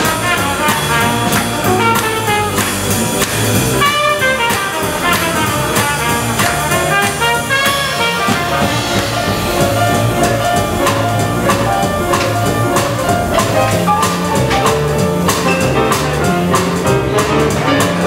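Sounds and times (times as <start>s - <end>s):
swing jazz band playing: 0.0s - 18.0s
trumpet melody: 0.0s - 18.0s.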